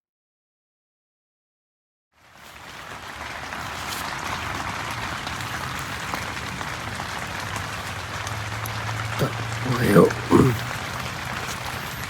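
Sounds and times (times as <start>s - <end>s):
heavy rain: 2.2s - 12.0s.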